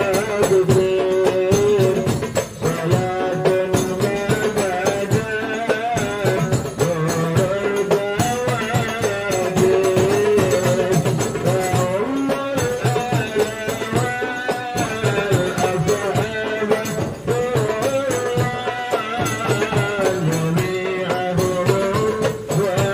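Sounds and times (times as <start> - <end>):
floor drum beating: 0.0 - 22.9
hand drums beating: 0.0 - 22.9.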